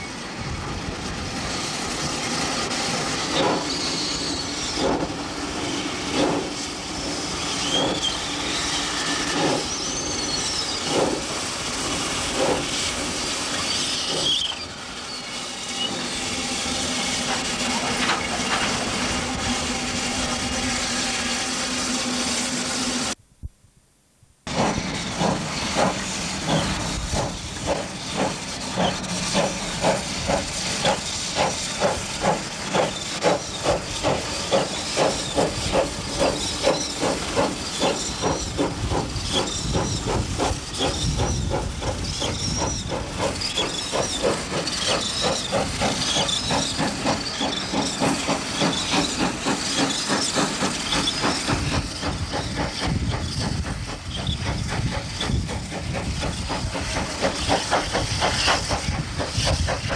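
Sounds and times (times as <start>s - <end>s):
steam hissing: 0.0s - 23.2s, 24.5s - 59.9s
steam locomotive exhaust chuffs: 0.2s - 23.2s, 24.5s - 59.9s.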